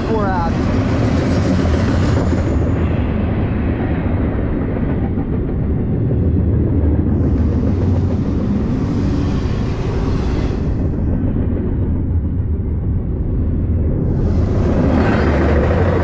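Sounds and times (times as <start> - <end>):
steel wheels rolling on rails: 0.0 - 12.0, 14.0 - 16.0.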